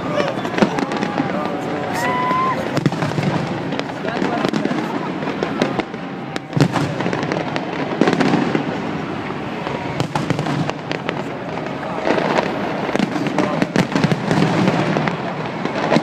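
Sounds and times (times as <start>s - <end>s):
fireworks bangs and crackles: 0.0s - 16.0s
heavy firework booms: 0.0s - 16.0s.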